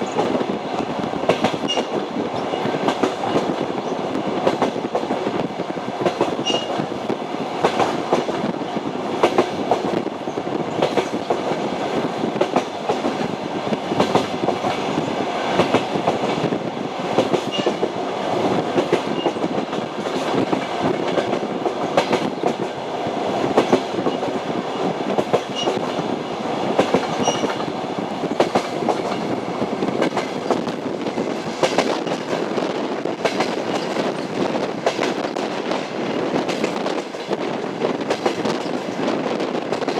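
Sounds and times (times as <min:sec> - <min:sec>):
train wheels clattering over rail joints: 0:00.0 - 0:08.6, 0:09.2 - 0:22.8, 0:23.4 - 0:39.9.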